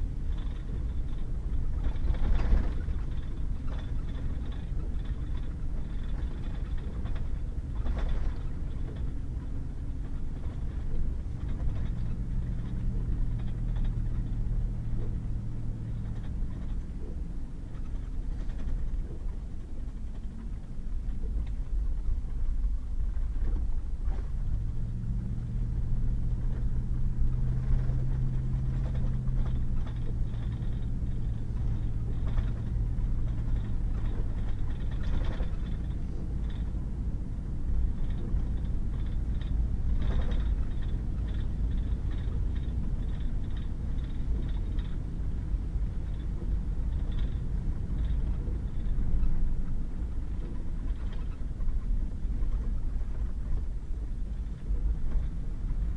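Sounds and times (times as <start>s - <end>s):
truck tyres and engine rumble: 0.0s - 55.9s
droning engine note: 8.2s - 53.6s.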